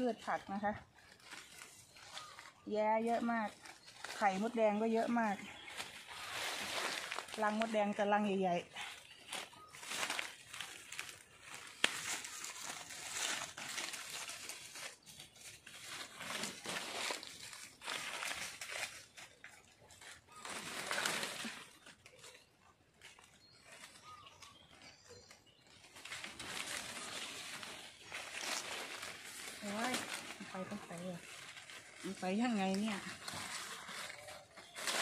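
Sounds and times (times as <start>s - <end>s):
leaves and twigs rustling: 0.0s - 35.0s.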